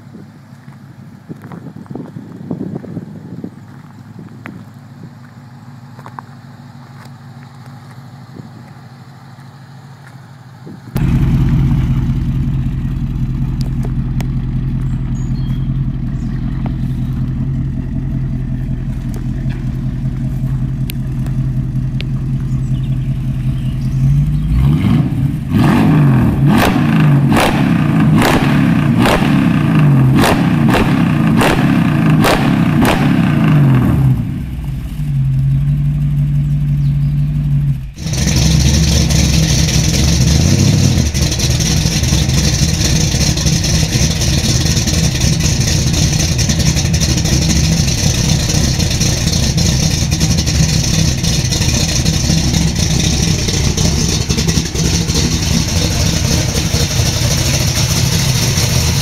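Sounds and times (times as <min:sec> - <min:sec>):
car engine running and revving: 0:00.0 - 0:59.0.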